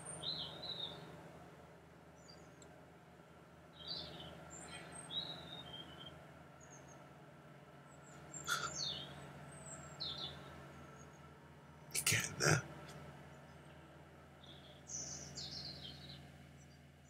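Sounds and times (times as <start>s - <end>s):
small birds chirping: 0.0s - 1.2s, 2.0s - 2.8s, 3.5s - 17.0s
faint low hum: 0.0s - 17.0s.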